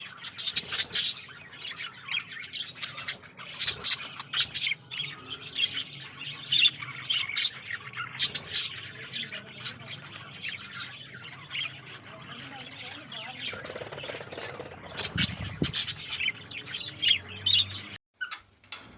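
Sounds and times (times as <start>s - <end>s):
cockatiels squawking and chirping: 0.0s - 18.6s.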